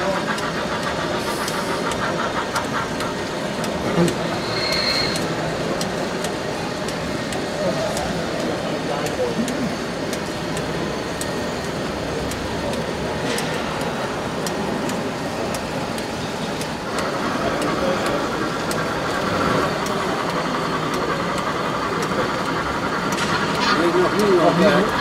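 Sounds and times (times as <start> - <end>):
crowd voices: 0.0 - 25.0.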